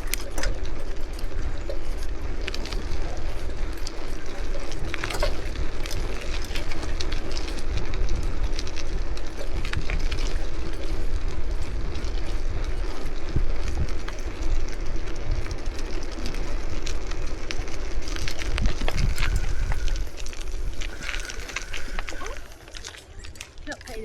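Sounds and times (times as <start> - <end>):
bike clicks and rattles: 0.0 - 24.0
wind rumbling on microphone: 0.0 - 24.0.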